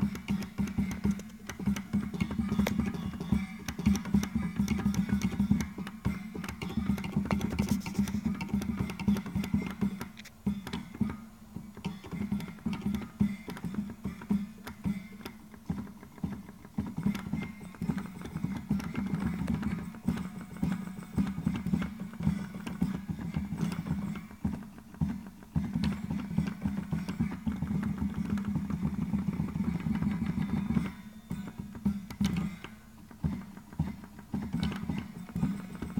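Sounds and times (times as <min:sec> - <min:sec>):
rapid solenoid clicking: 0:00.0 - 0:35.9.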